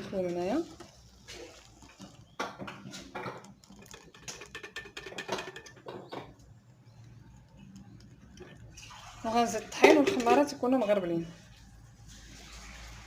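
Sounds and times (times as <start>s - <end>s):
batter pouring: 0.0s - 10.8s.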